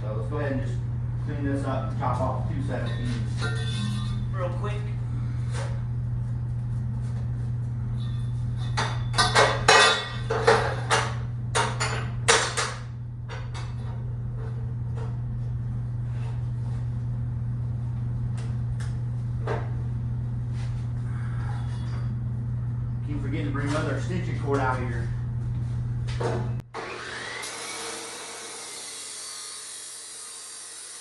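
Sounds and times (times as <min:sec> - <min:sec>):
steady low hum: 0:00.0 - 0:26.7.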